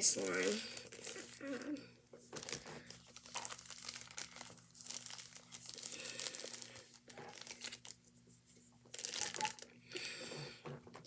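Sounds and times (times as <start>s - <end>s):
plastic bag crinkling: 0.0s - 8.1s, 8.9s - 10.3s.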